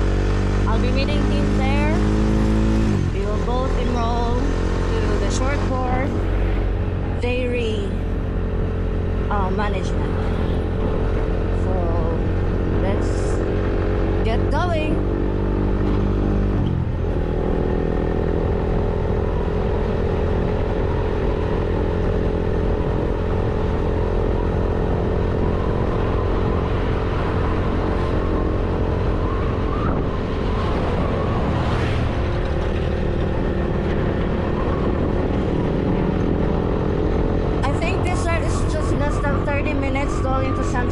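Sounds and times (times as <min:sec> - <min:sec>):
vehicle engine cruising: 0:00.0 - 0:40.9.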